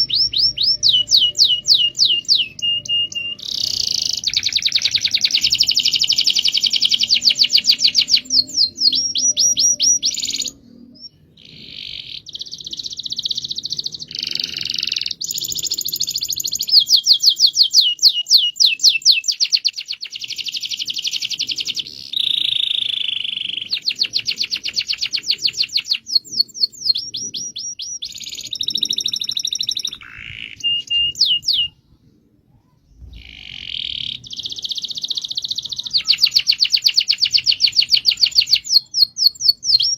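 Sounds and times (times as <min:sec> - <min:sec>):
canary singing trills: 0:00.0 - 0:31.9, 0:32.6 - 0:39.9.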